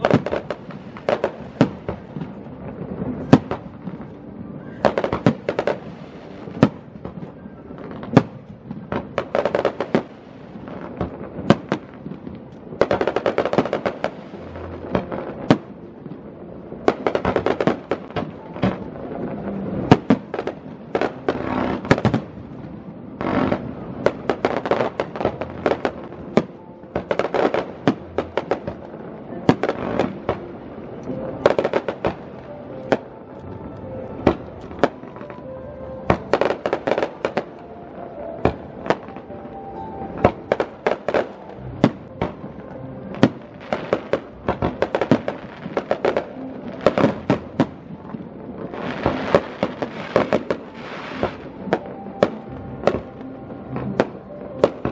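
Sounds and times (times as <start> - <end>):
firework crackling: 0.0 - 54.9.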